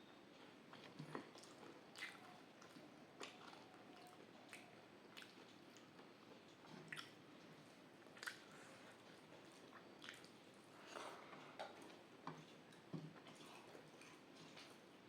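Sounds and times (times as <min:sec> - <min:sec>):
person chewing food: 0:00.4 - 0:14.8.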